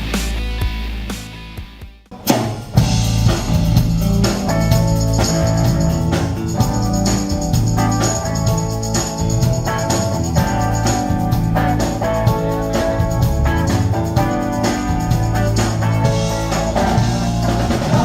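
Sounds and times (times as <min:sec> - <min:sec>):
bass: 0:00.0 - 0:18.0
drums: 0:00.0 - 0:18.0
rock band playing: 0:00.0 - 0:18.0
organ or keyboard: 0:02.2 - 0:18.0.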